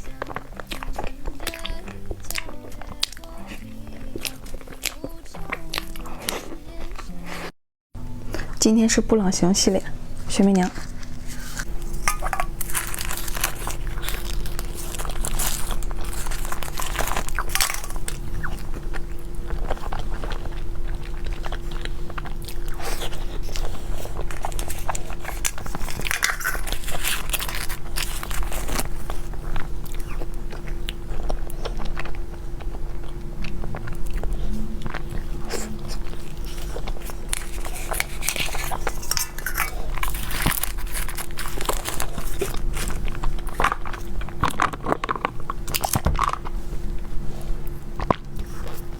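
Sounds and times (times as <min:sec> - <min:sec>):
person biting and chewing mochi: 0:00.0 - 0:07.5, 0:10.0 - 0:48.9
faint steady hum: 0:00.0 - 0:48.9.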